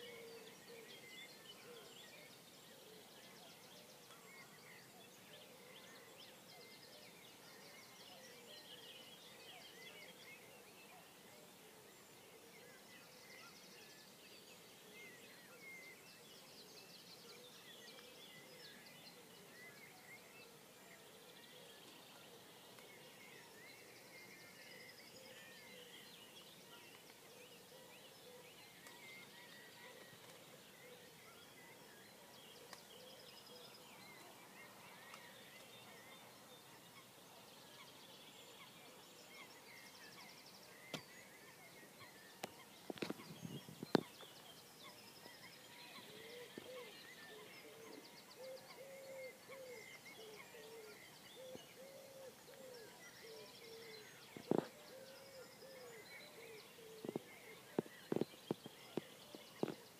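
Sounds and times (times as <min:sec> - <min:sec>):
quiet background hiss: 0:00.0 - 0:59.9
songbirds chirping and trilling: 0:00.0 - 0:59.9.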